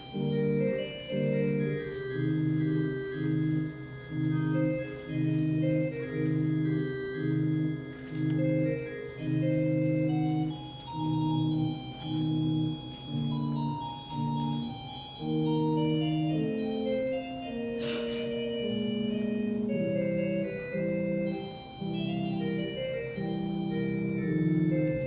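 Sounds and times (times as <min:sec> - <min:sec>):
organ playing chords: 0:00.0 - 0:25.0.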